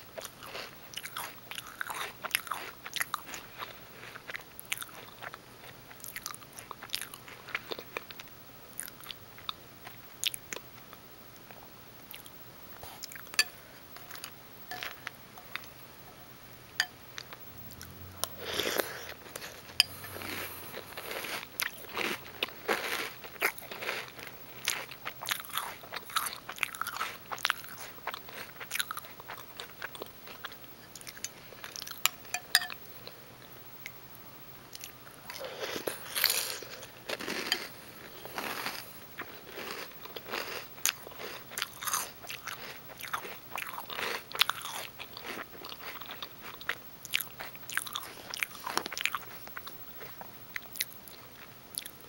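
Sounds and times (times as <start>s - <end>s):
crunchy cereal chewing: 0.1s - 15.8s, 17.2s - 33.2s, 34.7s - 52.0s.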